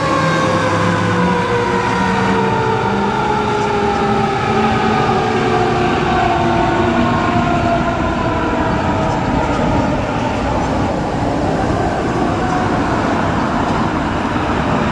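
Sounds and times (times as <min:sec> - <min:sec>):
fire truck siren: 0:00.0 - 0:14.9
truck engine rumble: 0:00.0 - 0:14.9.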